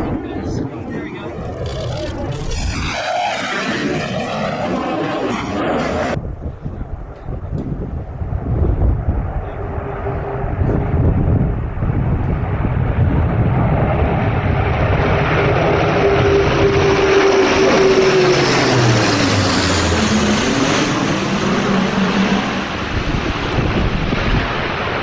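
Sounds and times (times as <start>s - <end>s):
airplane passing overhead: 0.0s - 25.0s.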